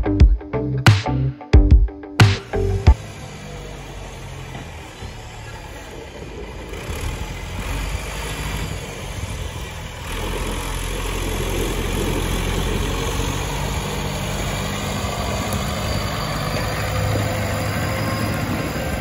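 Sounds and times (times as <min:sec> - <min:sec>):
tractor diesel engine running: 0:02.2 - 0:19.0.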